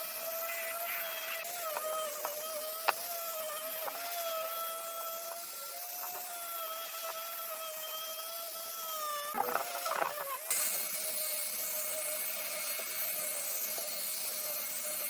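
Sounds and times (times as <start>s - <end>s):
power tool motor whining: 0.0s - 15.0s.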